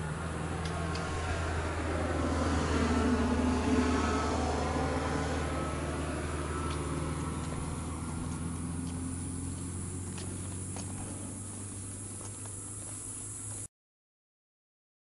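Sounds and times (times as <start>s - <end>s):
aircraft engines droning: 0.0s - 13.7s.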